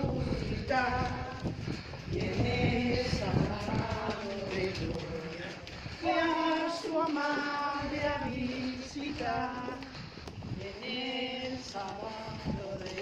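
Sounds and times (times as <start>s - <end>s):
women singing a hymn together: 0.0s - 13.0s.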